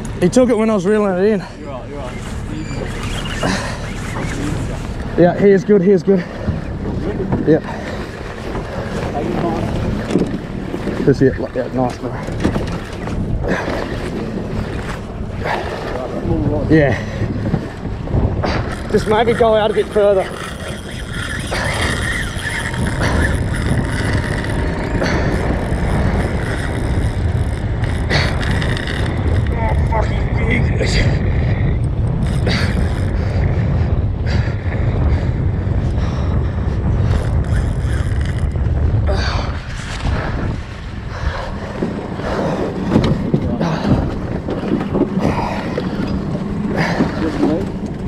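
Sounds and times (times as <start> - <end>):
outboard motor running slowly: 0.0 - 48.0
wind on microphone: 0.0 - 48.0.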